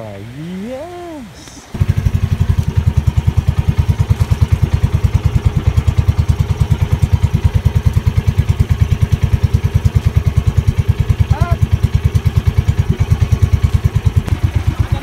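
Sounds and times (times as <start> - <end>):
small boat engine chugging: 1.7 - 15.0.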